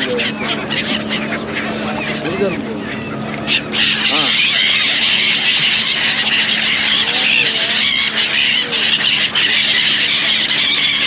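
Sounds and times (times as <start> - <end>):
flock of birds chattering: 0.0 - 11.0.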